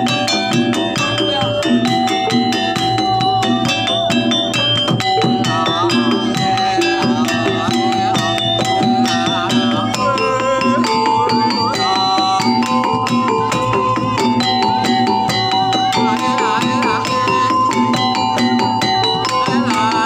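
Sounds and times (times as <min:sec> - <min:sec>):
fast dense drumming: 0:00.0 - 0:20.0
ringing metallic notes: 0:00.0 - 0:20.0
wavering melody: 0:00.0 - 0:20.0.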